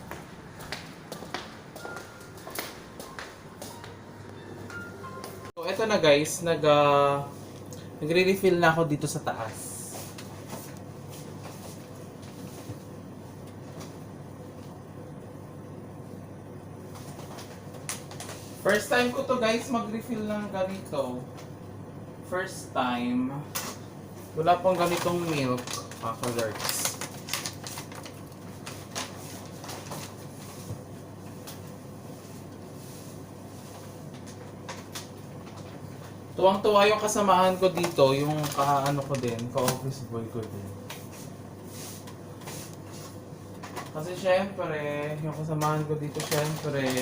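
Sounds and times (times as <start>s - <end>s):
low machine hum: 0.0s - 47.0s.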